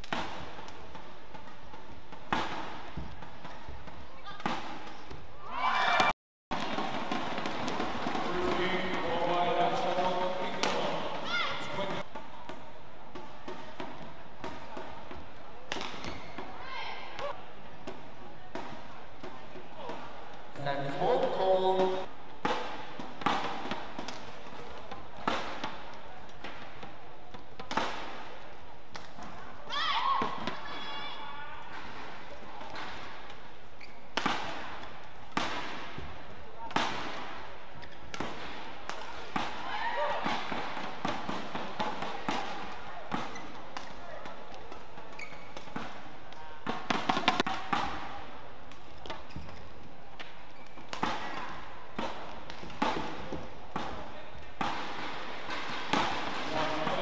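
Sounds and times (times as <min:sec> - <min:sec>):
racket hitting shuttlecock: 0:00.0 - 0:05.2, 0:05.9 - 0:20.1, 0:22.4 - 0:29.5, 0:31.7 - 0:49.6, 0:50.2 - 0:57.0
arena background noise: 0:00.0 - 0:57.0.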